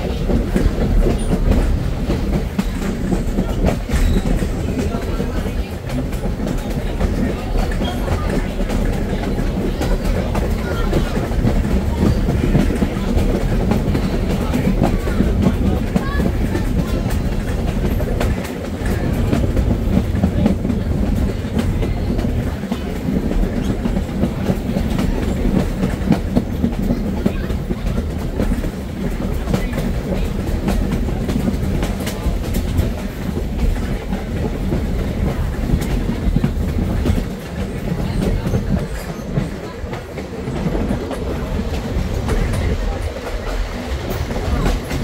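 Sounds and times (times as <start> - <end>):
train coach rumbling: 0.0 - 45.0
wheels clicking over rail joints: 0.0 - 45.0.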